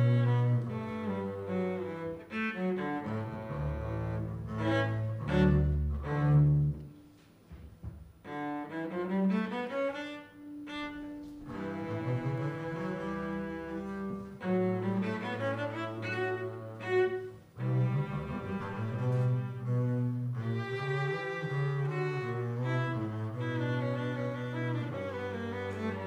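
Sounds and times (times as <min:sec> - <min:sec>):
string ensemble playing slowly: 0:00.0 - 0:26.0.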